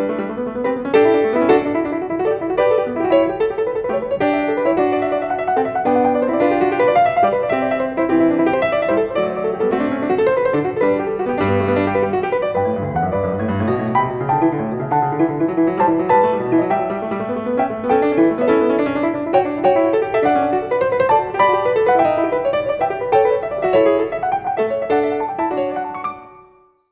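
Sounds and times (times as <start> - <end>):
piano music: 0.0 - 26.9.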